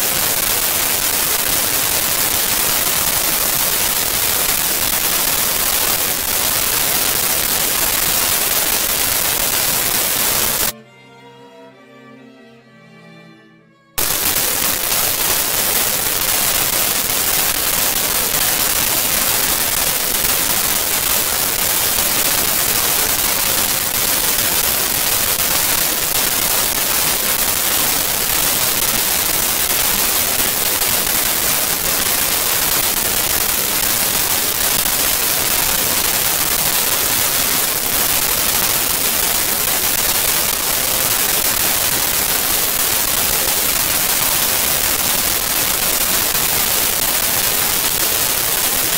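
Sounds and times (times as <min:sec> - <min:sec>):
static hiss: 0:00.0 - 0:10.8, 0:14.0 - 0:48.9.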